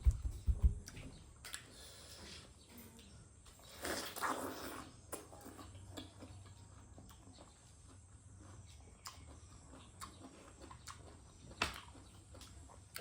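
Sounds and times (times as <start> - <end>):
chewing mouth clicks and smacks: 0.8 - 1.9, 3.0 - 13.0.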